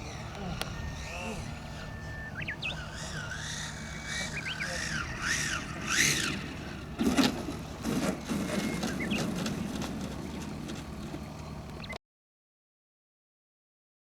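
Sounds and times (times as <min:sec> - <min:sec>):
model plane motor whine: 0:00.0 - 0:12.0
steady rumbling noise: 0:00.0 - 0:12.0.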